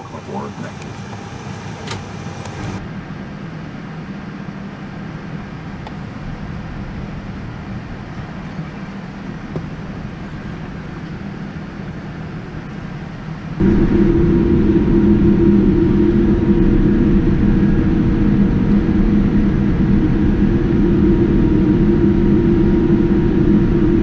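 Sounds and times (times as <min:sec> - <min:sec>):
airliner cabin hum: 0:00.0 - 0:24.0
loud airliner drone: 0:00.0 - 0:24.0.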